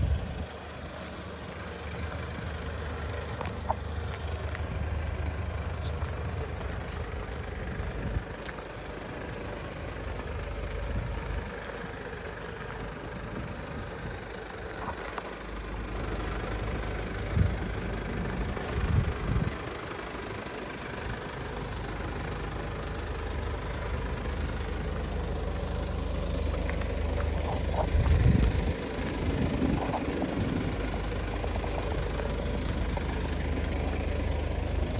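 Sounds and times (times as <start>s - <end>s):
van engine idling: 0.0s - 34.9s.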